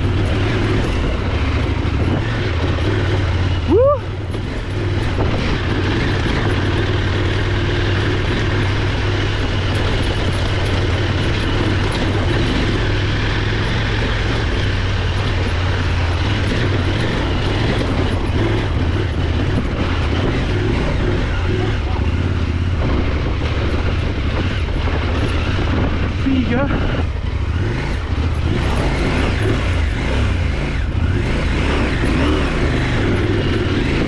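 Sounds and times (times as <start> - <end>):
motorcycle engine running: 0.0 - 34.0
wind and riding noise: 0.0 - 34.0.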